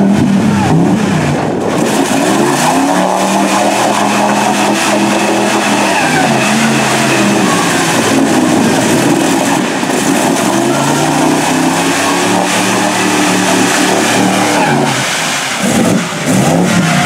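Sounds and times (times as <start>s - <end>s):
tires spinning through mud: 0.0s - 17.0s
truck engine at high revs: 0.0s - 17.0s.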